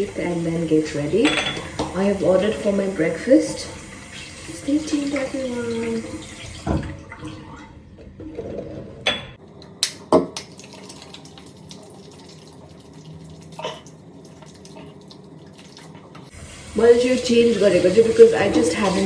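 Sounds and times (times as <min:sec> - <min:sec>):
water running: 0:00.0 - 0:19.0.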